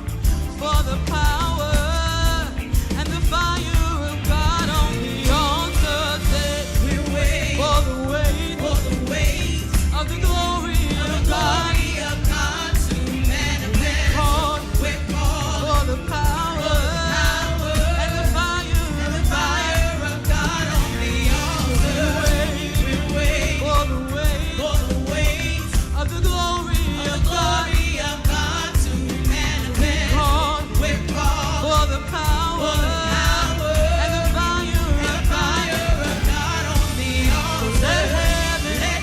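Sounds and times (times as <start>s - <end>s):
gospel band playing: 0.0s - 39.0s
person singing with vibrato: 0.0s - 39.0s.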